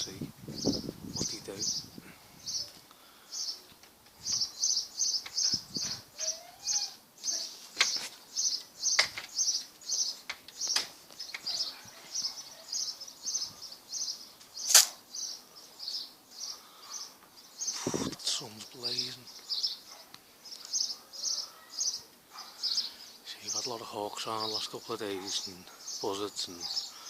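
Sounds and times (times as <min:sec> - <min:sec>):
small bird chirping: 0:00.0 - 0:27.0.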